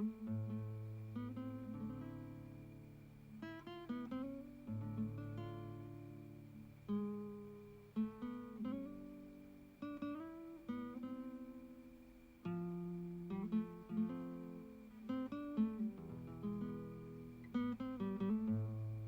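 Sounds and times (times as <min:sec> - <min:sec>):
acoustic guitar playing: 0:00.0 - 0:19.0.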